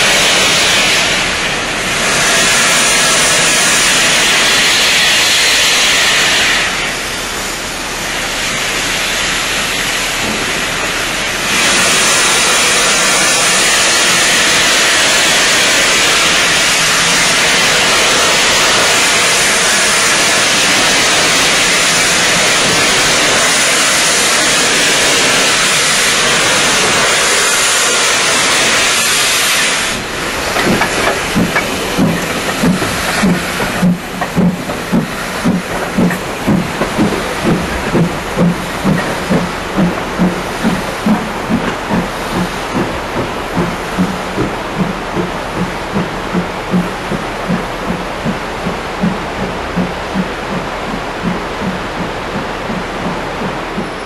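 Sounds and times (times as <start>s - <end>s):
steam hissing from locomotive: 0.0s - 54.0s.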